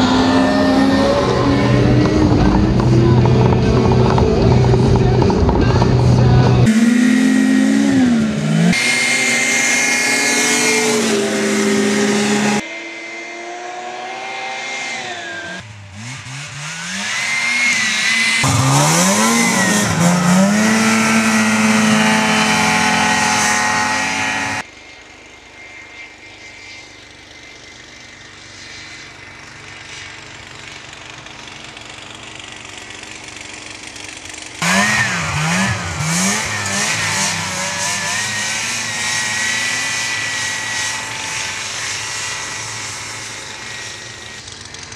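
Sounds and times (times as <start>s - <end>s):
snowmobile engine howling: 0.0s - 44.9s.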